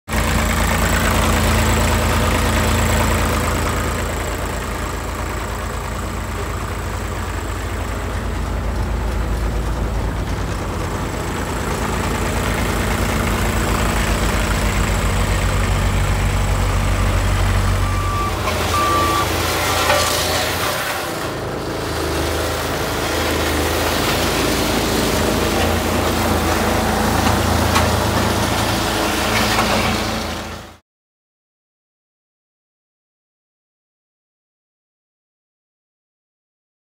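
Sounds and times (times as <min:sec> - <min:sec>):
diesel engine idling: 0:00.1 - 0:30.8.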